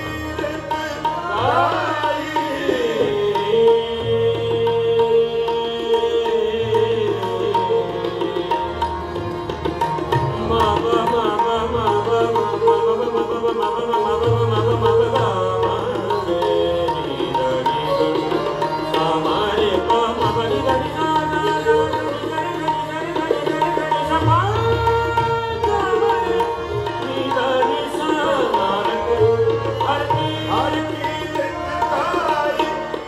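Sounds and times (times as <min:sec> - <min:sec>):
harmonium reed notes: 0:00.0 - 0:33.0
tabla drumming: 0:00.0 - 0:33.0.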